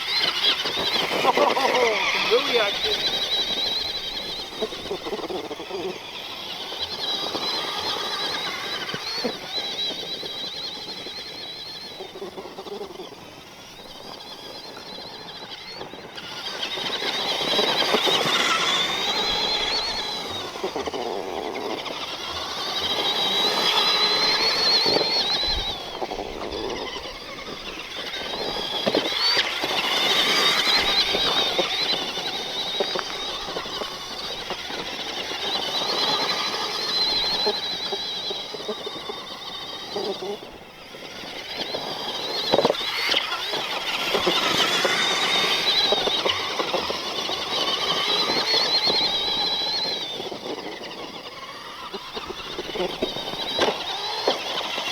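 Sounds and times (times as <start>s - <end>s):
rc truck motor whine: 0.0s - 54.9s.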